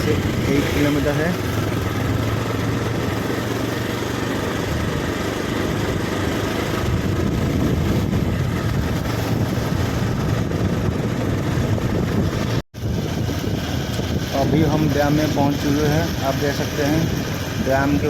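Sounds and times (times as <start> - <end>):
road and wind noise: 0.0 - 18.0
vehicle engine running: 0.0 - 18.0.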